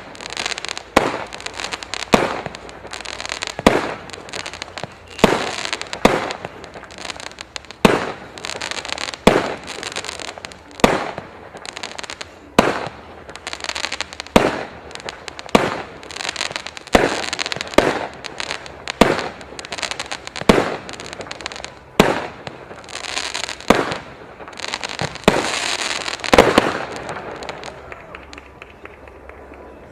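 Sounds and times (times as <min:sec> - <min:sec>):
firework bangs: 0:00.0 - 0:29.6
firework crackling: 0:00.0 - 0:29.9.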